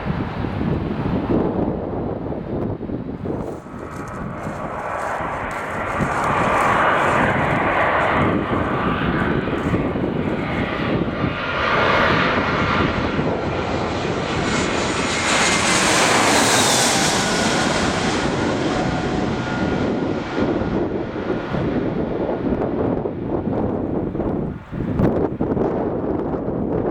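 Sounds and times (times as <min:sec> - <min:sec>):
airliner passing overhead: 0:00.0 - 0:26.9.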